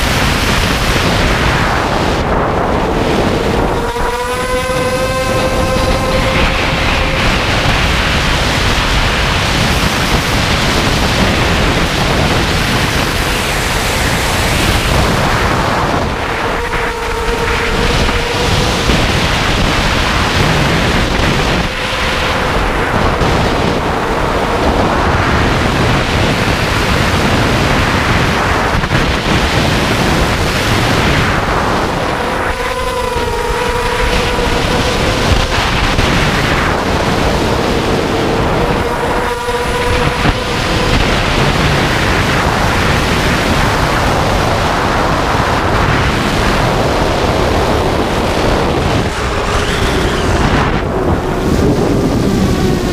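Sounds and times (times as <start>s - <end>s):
wind rush on microphone: 0.0s - 52.9s
drone motors whining: 0.1s - 52.9s.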